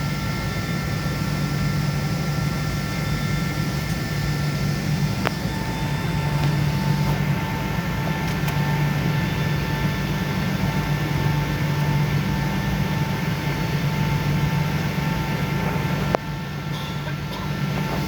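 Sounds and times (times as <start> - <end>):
airliner engines drone: 0.0 - 18.0.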